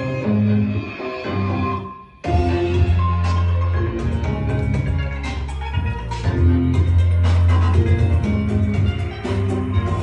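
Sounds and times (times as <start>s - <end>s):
dance music: 0.0s - 10.0s.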